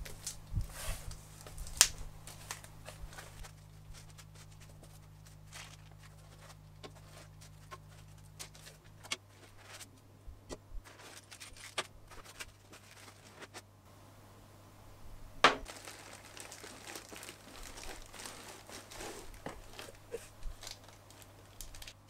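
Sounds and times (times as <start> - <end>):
plastic bags crinkling: 0.0 - 10.0, 10.8 - 13.6, 15.4 - 22.0.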